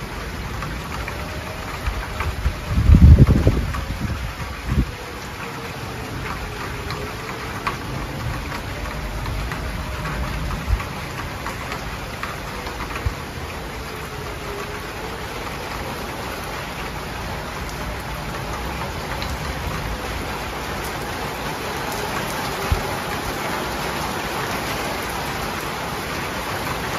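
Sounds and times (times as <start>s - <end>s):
distant warning siren wailing: 0.0s - 26.9s
heavy rain pouring: 0.0s - 26.9s.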